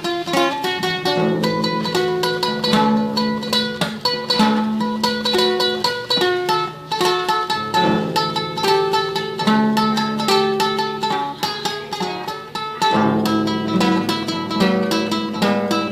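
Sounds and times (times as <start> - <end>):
classical guitar tremolo melody: 0.0 - 15.9.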